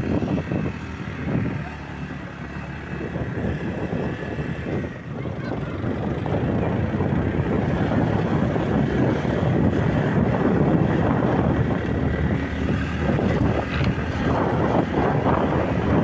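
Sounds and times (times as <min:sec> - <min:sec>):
motorbike engine running: 0:00.0 - 0:16.0
wind buffeting microphone: 0:00.0 - 0:16.0.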